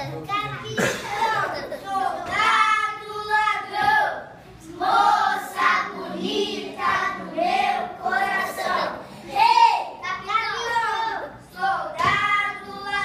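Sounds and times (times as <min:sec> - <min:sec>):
children singing: 0:00.8 - 0:13.0.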